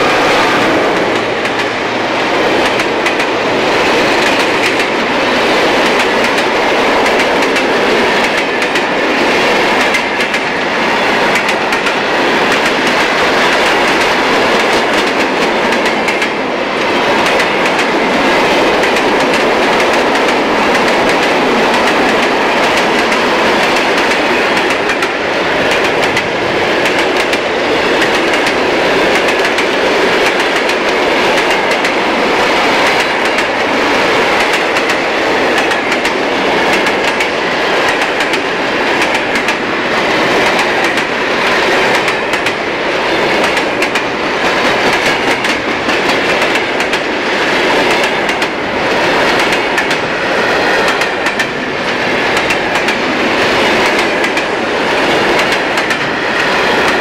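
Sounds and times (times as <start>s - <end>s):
train rolling rumble: 0.0s - 57.0s
train wheels clattering over rail joints: 0.8s - 57.0s.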